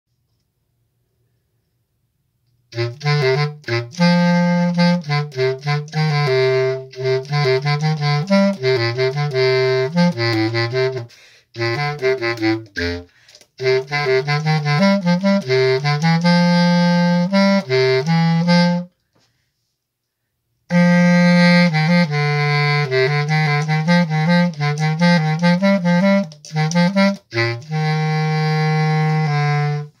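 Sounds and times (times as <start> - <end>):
bass clarinet playing low notes: 2.7 - 18.9, 20.7 - 30.0.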